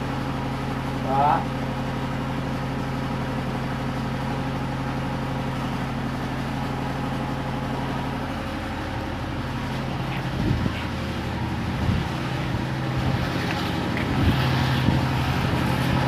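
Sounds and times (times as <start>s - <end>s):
small engine idling: 0.0s - 16.0s.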